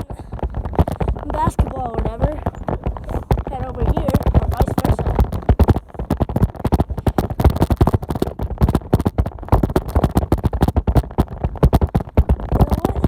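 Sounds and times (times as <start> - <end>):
bicycle rattling and knocking: 0.0 - 13.0.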